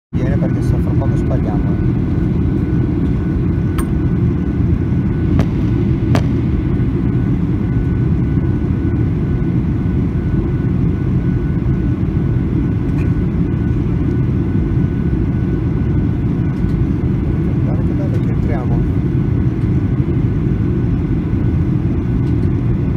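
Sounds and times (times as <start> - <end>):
aircraft engines and airflow rumble: 0.1 - 22.9.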